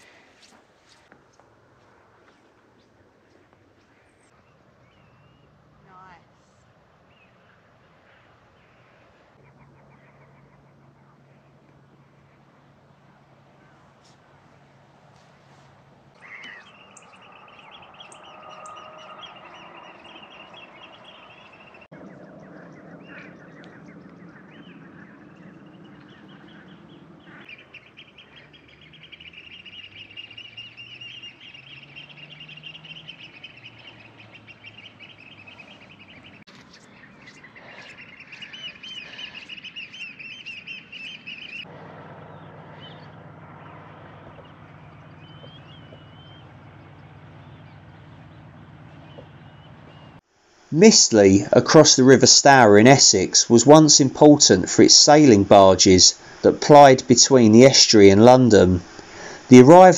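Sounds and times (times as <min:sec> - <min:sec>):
waterbirds trilling and twittering: 0:00.0 - 0:59.9
birds honking: 0:07.2 - 0:50.2, 0:50.9 - 0:59.9.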